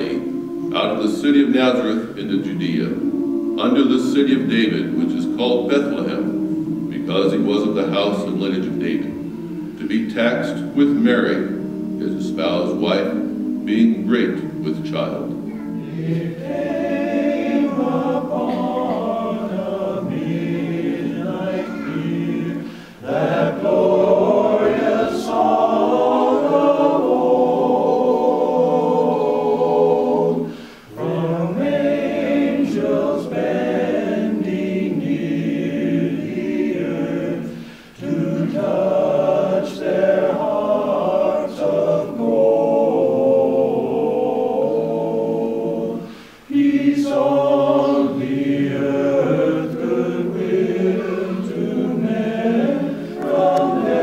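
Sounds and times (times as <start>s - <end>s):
men's chorus singing a cappella: 0.0s - 54.0s.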